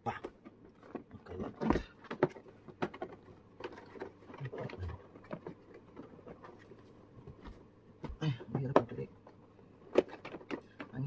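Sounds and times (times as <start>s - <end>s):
plastic box knocking and rattling: 0.1s - 11.0s.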